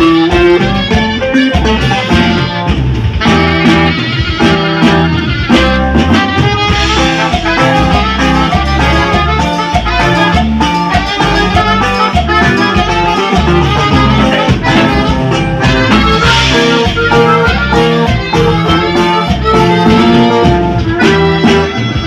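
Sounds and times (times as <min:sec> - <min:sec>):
cumbia music: 0:00.0 - 0:22.0.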